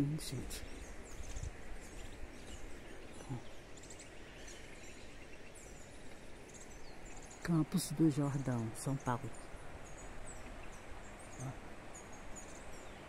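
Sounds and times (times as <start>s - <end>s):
birds chirping and singing: 0.0s - 13.0s
steady background hiss: 0.0s - 13.0s.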